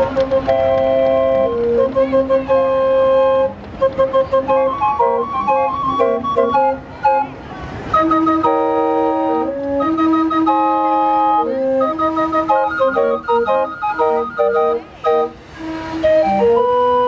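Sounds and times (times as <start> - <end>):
calliope playing a tune: 0.0 - 17.0.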